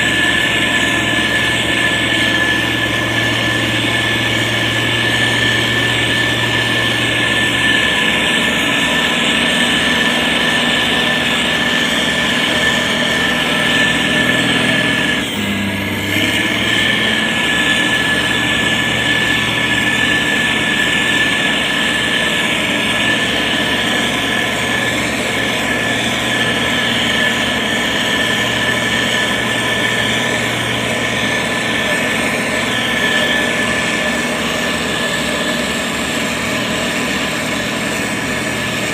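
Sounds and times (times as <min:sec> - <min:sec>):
diesel engine running: 0:00.0 - 0:38.9
steady high whine: 0:00.0 - 0:38.9.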